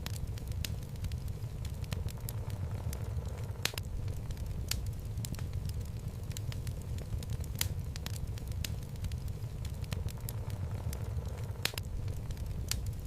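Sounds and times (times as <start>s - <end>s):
burning logs crackling and popping: 0.0s - 13.0s
fire rumbling: 0.0s - 13.0s.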